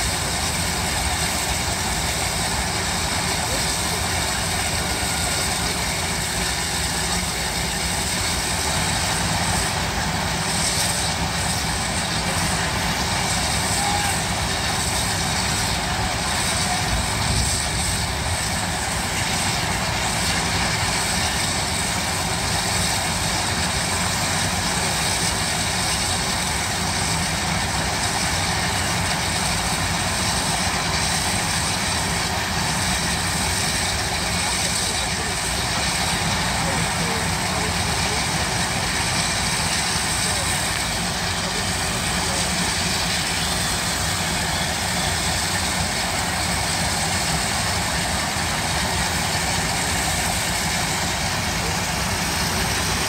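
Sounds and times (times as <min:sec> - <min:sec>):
steam shovels working: 0:00.0 - 0:53.0.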